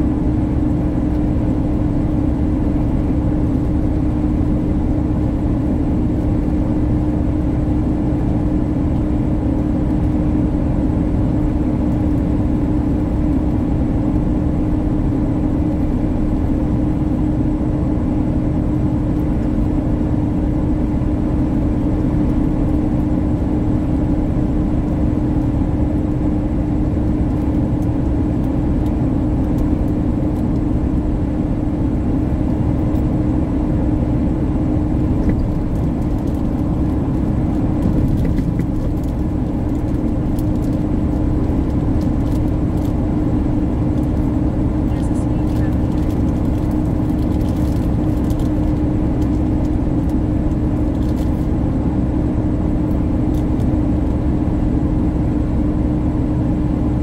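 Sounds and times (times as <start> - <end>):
constant hum: 0.0 - 57.0
truck engine and road rumble: 0.0 - 57.0.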